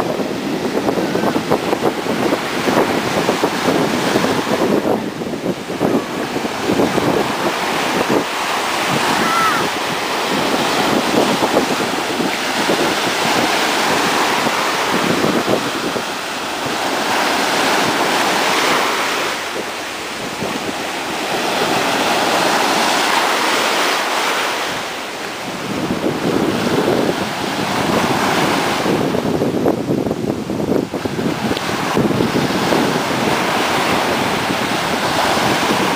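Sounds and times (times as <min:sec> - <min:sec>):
ocean surf breaking: 0:00.0 - 0:35.9
wind on microphone: 0:00.0 - 0:35.9.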